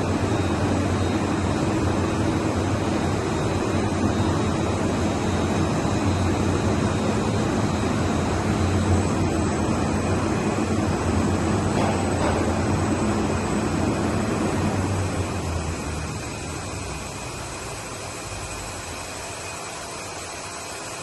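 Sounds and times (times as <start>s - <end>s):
industrial machinery running: 0.0s - 21.0s.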